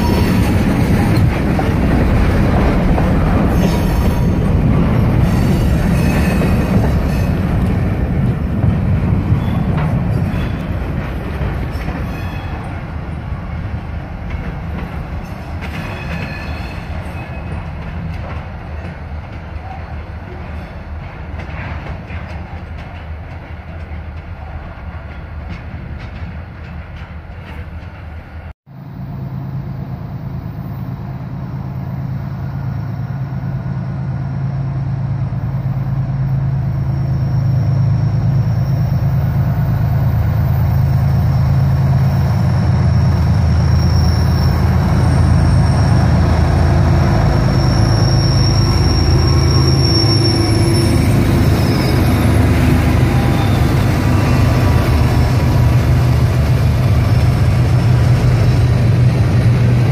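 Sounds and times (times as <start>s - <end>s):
freight cars rolling: 0.0s - 28.5s, 37.6s - 59.9s
diesel locomotive engine rumble: 0.0s - 59.9s.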